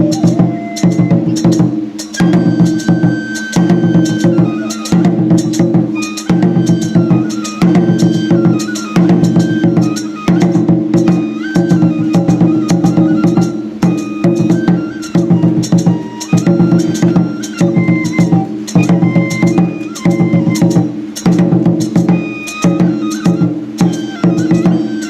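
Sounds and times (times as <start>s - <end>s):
high bamboo flute melody: 0.0s - 25.0s
rapid drum strokes: 0.0s - 25.0s.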